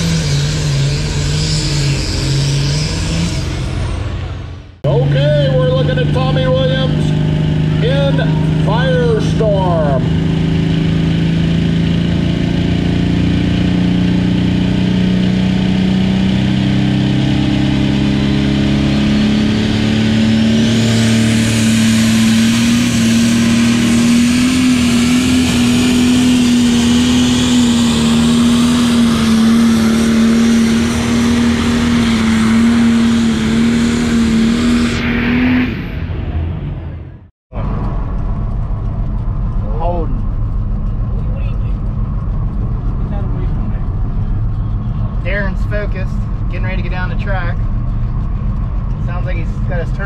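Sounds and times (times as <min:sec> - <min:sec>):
engine running hard under load: 0:00.0 - 0:50.0.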